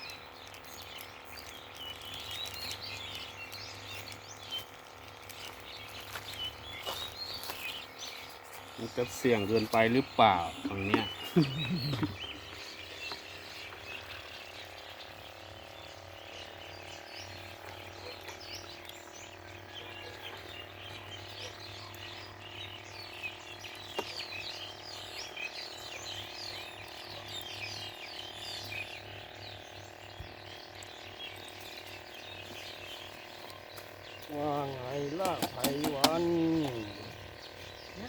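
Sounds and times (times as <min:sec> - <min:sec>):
birds chirping: 0:00.0 - 0:38.0
frogs calling: 0:00.0 - 0:38.0.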